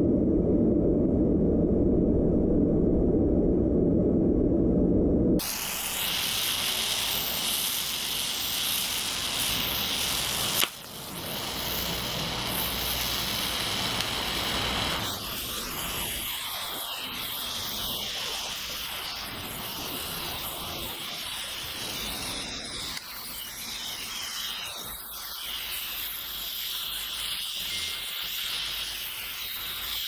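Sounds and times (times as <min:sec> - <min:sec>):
gas flame hissing: 0:05.4 - 0:30.0.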